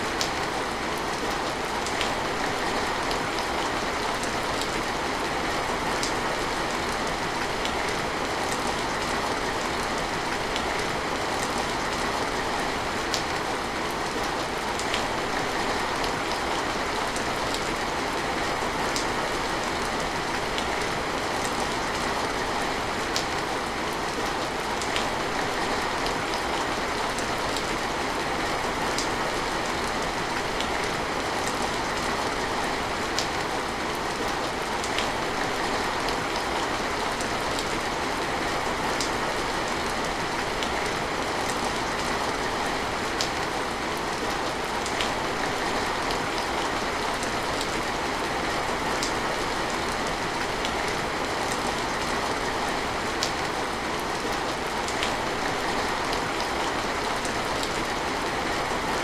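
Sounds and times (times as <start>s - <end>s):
raindrops ticking on surface: 0.1s - 58.4s.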